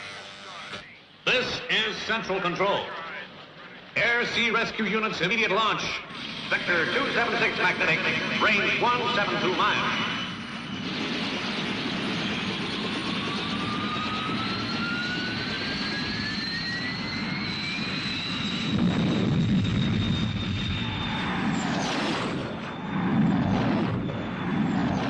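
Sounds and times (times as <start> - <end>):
jet engine whine: 0.0 - 25.0.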